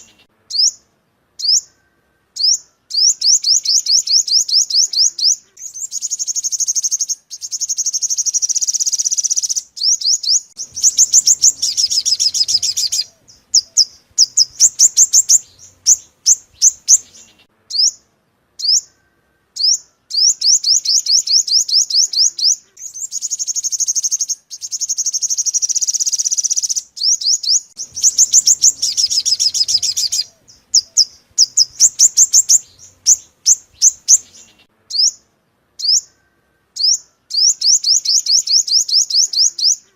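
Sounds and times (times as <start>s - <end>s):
bird song trills and chirps: 0.0s - 39.9s.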